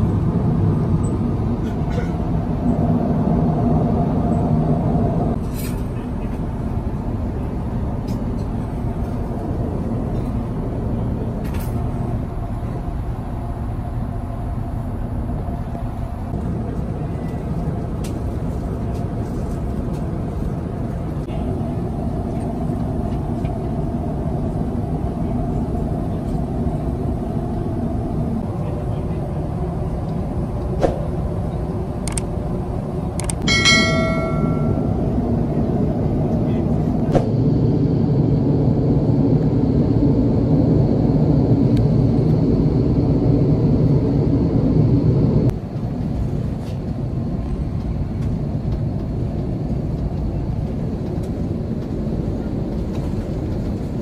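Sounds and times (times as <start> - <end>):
airflow rushing over cabin: 0.0 - 54.0
low engine drone: 0.0 - 54.0.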